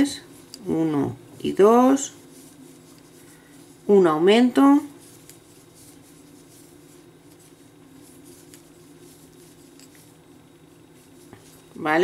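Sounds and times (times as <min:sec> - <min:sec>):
steady low hum: 0:00.0 - 0:12.0
crochet hook rubbing yarn: 0:01.5 - 0:12.0.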